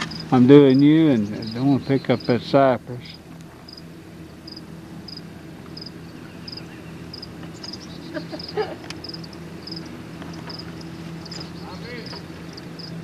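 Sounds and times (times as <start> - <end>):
insect chirping: 0.0 - 2.4, 3.0 - 13.0.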